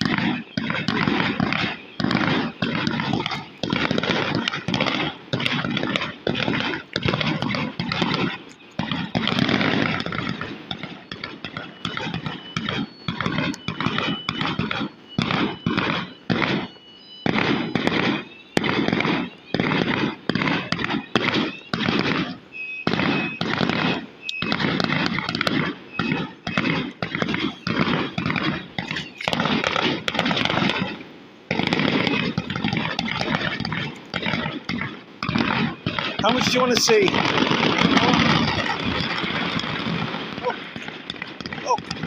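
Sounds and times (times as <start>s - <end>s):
faint high alarm tone: 0.0s - 42.0s
fireworks bangs and crackles: 0.0s - 42.0s.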